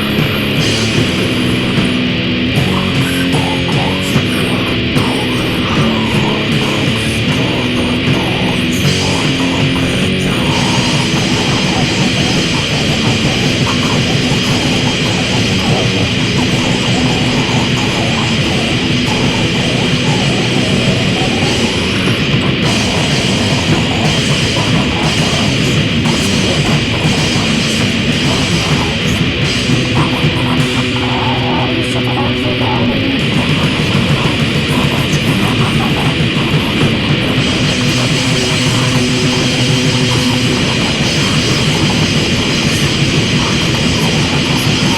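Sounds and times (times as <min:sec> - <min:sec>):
harsh grind music: 0:00.0 - 0:44.9.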